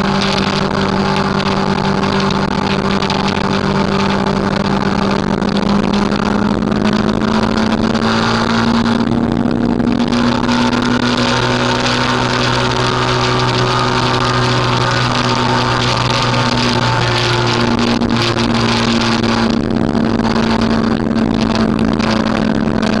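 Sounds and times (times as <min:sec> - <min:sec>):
motorcycle engine cruising: 0:00.0 - 0:23.0
wind rushing on microphone: 0:00.0 - 0:23.0.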